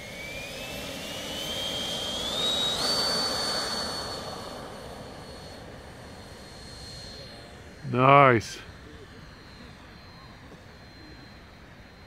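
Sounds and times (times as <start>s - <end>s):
electric ducted fan whine: 0.0s - 12.0s.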